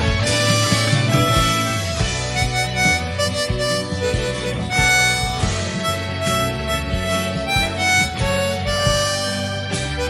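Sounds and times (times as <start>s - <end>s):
bass tones: 0.0s - 10.0s
harmonica melody: 0.0s - 10.0s
plucked strings: 0.0s - 10.0s.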